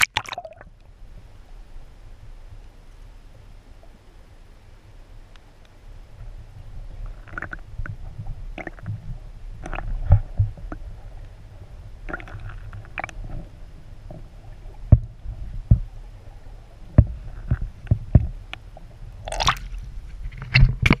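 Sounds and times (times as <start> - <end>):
underwater sloshing and gurgling: 0.0 - 21.0.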